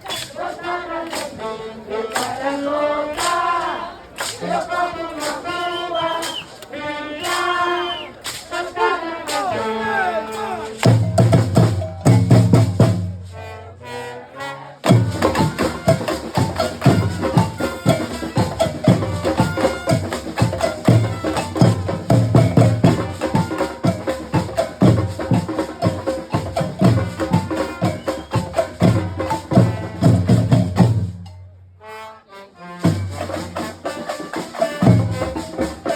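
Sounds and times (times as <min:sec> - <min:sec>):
percussion ensemble drumming: 0:00.0 - 0:13.6, 0:14.8 - 0:31.6, 0:32.8 - 0:35.9.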